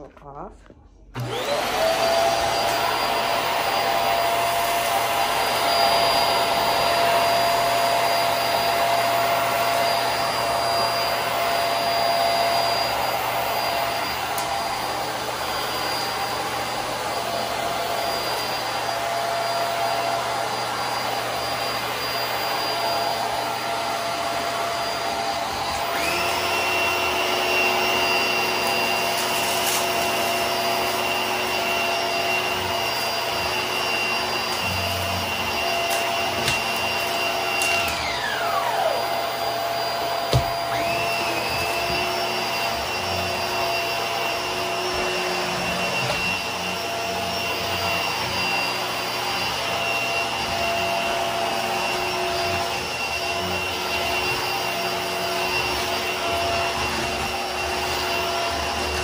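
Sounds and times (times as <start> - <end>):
vacuum cleaner motor whine: 1.1 - 59.0.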